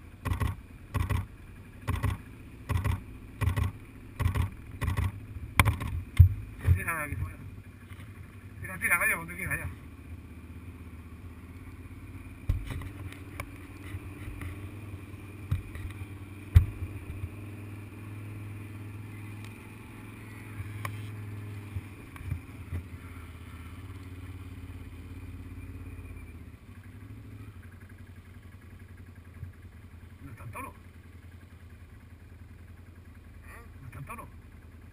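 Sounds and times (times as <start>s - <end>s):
quad bike engine running: 0.0s - 34.9s.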